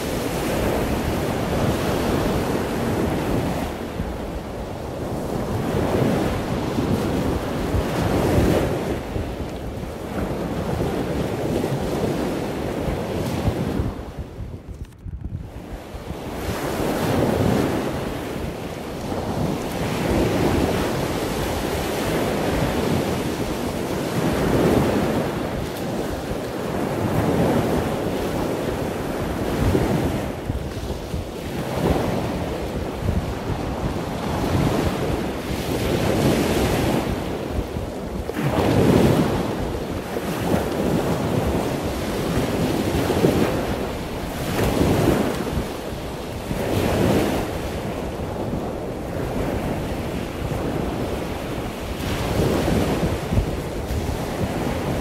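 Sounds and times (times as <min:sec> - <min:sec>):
surf washing on shore: 0:00.0 - 0:55.0
wind buffeting microphone: 0:00.0 - 0:55.0.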